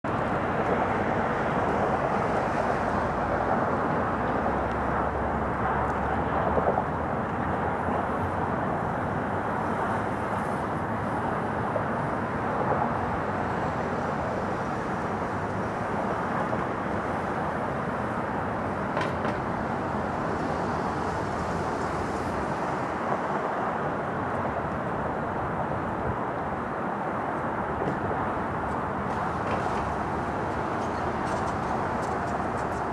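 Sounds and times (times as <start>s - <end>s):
distant aircraft engines: 0.1s - 32.9s
distant traffic rumble: 0.1s - 32.9s.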